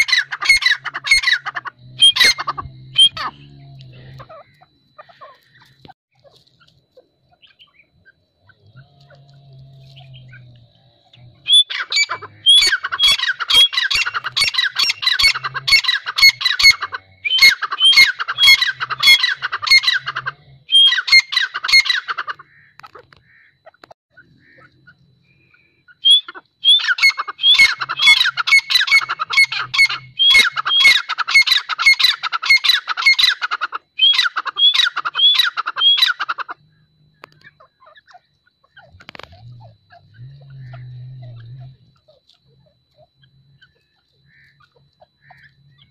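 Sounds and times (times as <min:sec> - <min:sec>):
francolin calling: 0:00.0 - 0:45.9.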